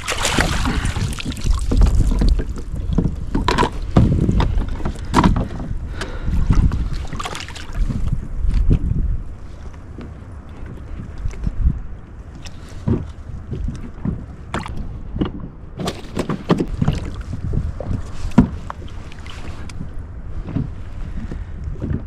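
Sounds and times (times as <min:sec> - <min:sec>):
knocks and bumps on a kayak: 0:00.0 - 0:09.2, 0:12.5 - 0:22.0
wind rumble on microphone: 0:00.0 - 0:22.0.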